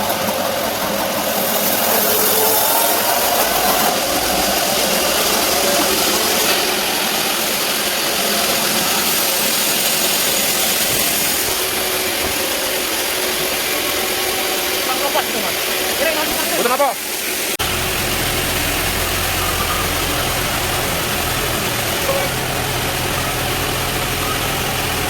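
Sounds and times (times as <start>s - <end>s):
band sawmill running: 0.0s - 25.0s.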